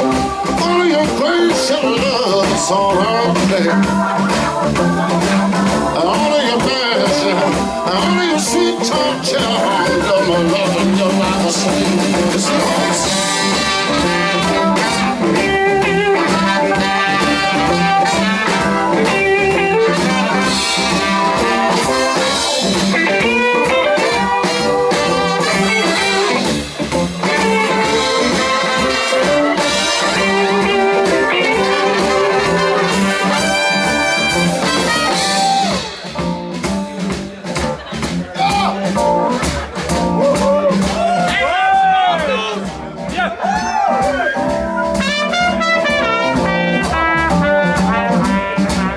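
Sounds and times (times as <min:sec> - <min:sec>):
horn section: 0:00.0 - 0:36.8, 0:37.8 - 0:48.9
blues band playing: 0:00.0 - 0:48.9
electric guitar: 0:00.0 - 0:48.9.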